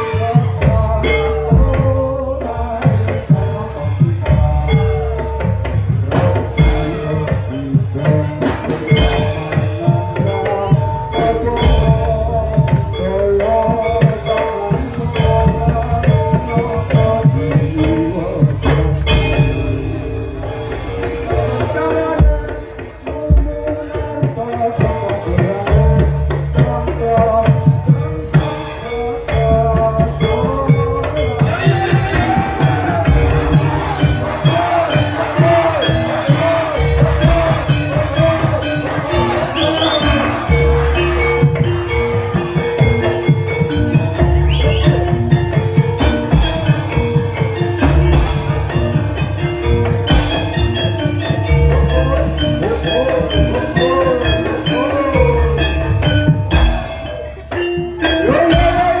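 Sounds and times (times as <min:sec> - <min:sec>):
ringing metallophone tones: 0:00.0 - 0:59.0.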